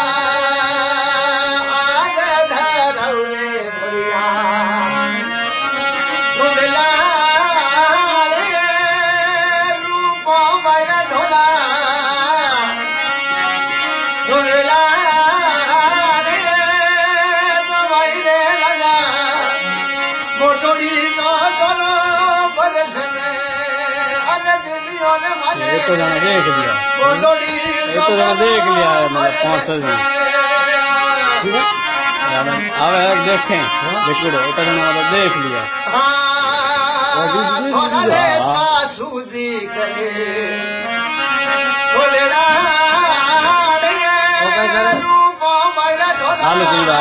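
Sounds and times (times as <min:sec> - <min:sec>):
wavering ornamented folk melody: 0:00.0 - 0:47.0.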